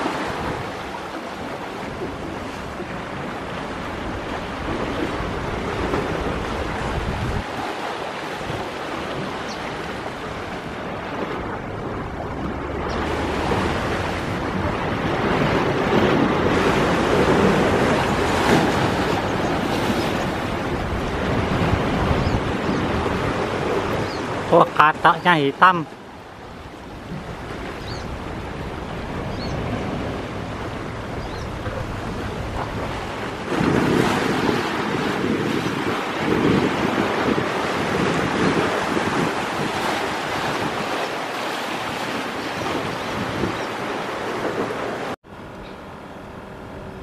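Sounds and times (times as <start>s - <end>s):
sea surf breaking on shore: 0.0s - 47.0s.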